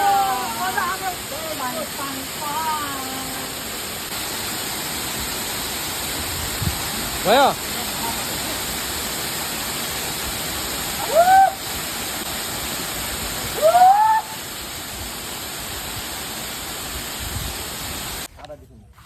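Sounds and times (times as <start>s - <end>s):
waterfall rushing: 0.0s - 18.3s.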